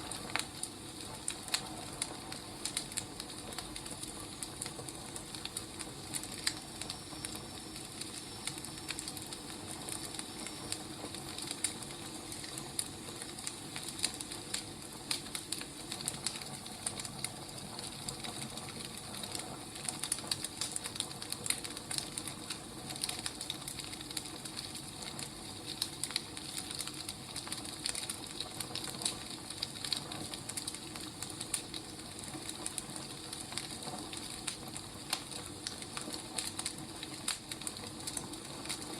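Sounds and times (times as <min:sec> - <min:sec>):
firewood crackling and popping: 0:00.0 - 0:38.9.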